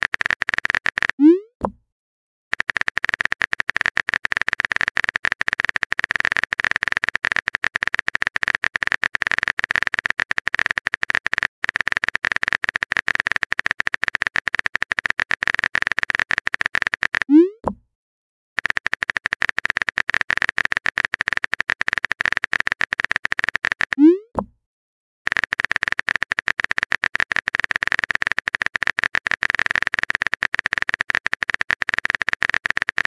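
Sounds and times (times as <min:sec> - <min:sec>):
keyboard typing clicks: 0:00.0 - 0:01.8, 0:02.5 - 0:17.8, 0:18.6 - 0:24.5, 0:25.3 - 0:33.0.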